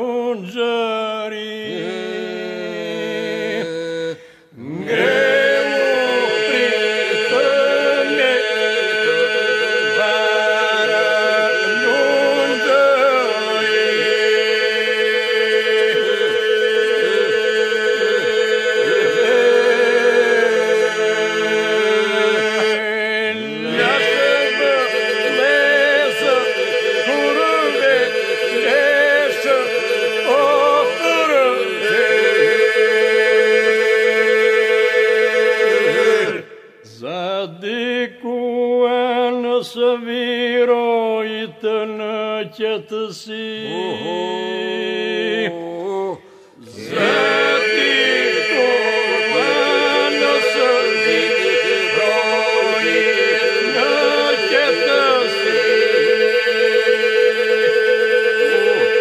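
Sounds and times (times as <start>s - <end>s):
lead voices singing ornamented lines: 0.0s - 59.0s
group singing a drone: 1.4s - 59.0s.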